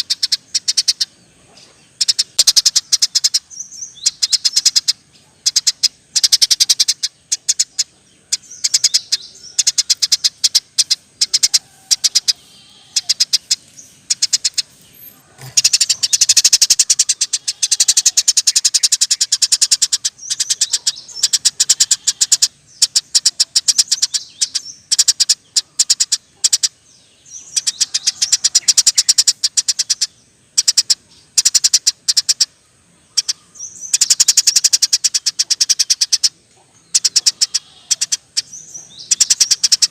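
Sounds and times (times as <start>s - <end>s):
sparrow chirping in rapid runs: 0.0s - 32.5s, 33.1s - 39.9s.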